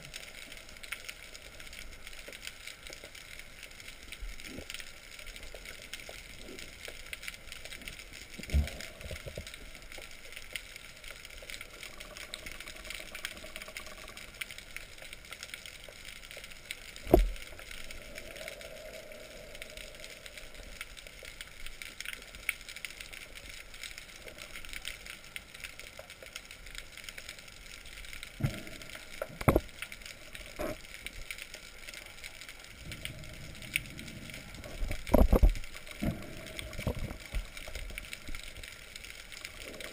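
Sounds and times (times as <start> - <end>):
faint underwater crackling hiss: 0.0 - 39.9.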